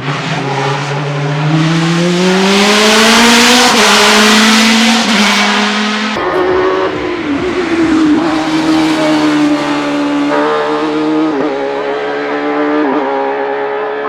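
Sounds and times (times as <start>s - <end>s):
racing car engine running: 0.0s - 13.8s.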